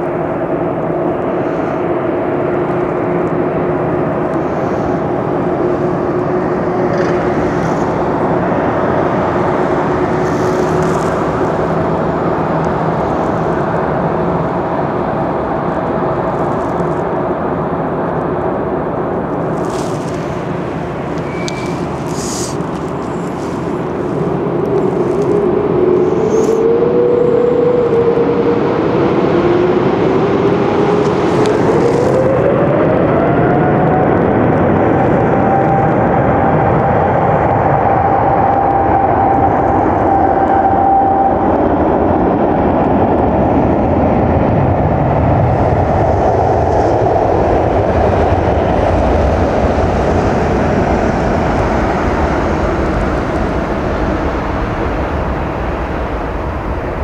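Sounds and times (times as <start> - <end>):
jet engine roar with whine: 0.0 - 57.0.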